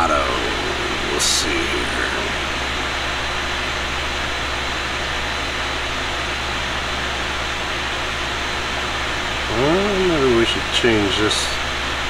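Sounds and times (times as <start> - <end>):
low hum: 0.0 - 10.7
cooling fans whooshing: 0.0 - 12.0.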